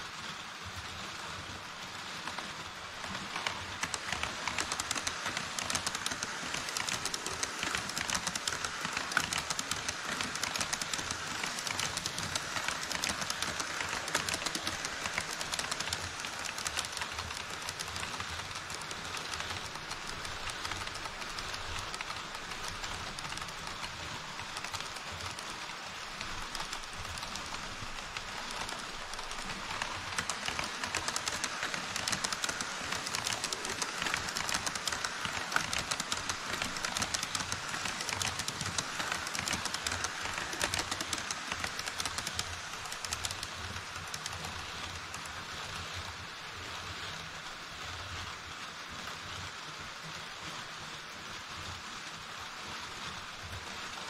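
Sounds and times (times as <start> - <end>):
model train wheels rattling: 0.0 - 48.4.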